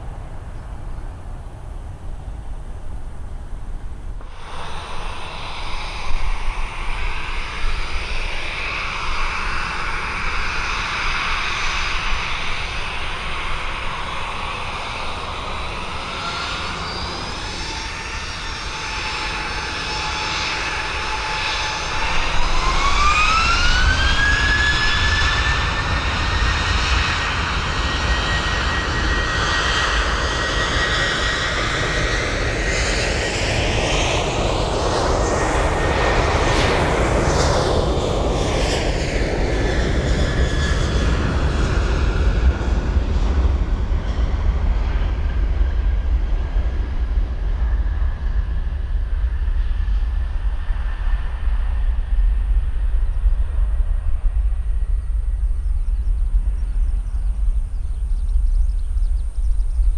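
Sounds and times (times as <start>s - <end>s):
jet engines whining at takeoff: 0.0s - 59.9s.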